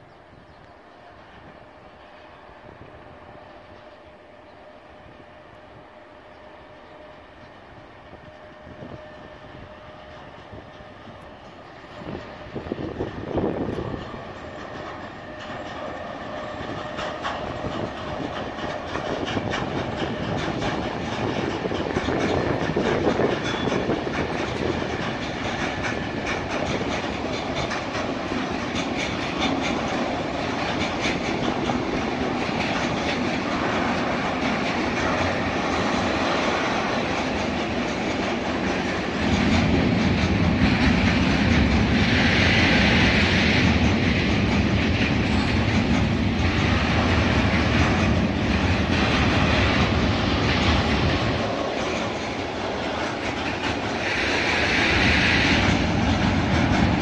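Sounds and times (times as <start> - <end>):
freight train wheels clattering: 1.3 - 57.0.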